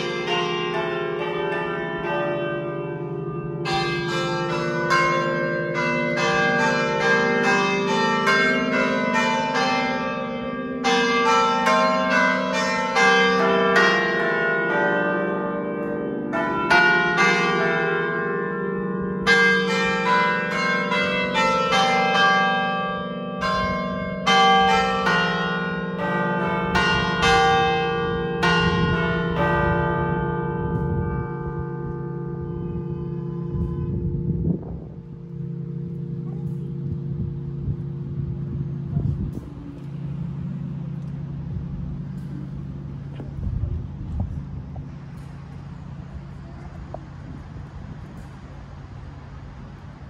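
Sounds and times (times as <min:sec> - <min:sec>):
church bells ringing: 0:00.0 - 0:50.0.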